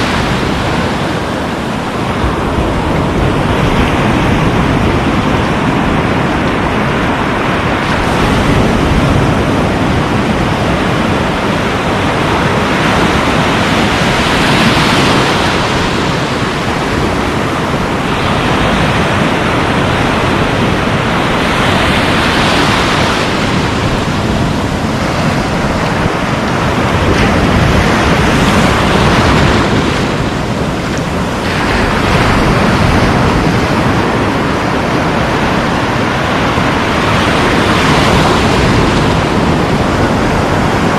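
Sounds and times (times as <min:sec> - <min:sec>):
sea surf breaking on shore: 0:00.0 - 0:40.9
wind rumbling on microphone: 0:00.0 - 0:40.9.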